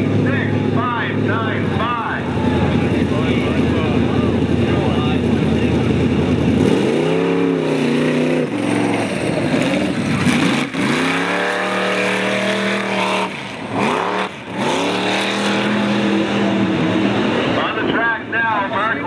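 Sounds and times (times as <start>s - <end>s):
truck engine revving hard: 0.0s - 19.0s.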